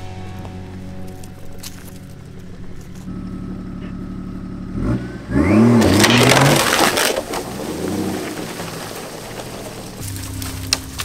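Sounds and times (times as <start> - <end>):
tree trunk dragging and crunching: 0.0 - 4.2, 4.8 - 11.0
car engine revving: 0.0 - 11.0.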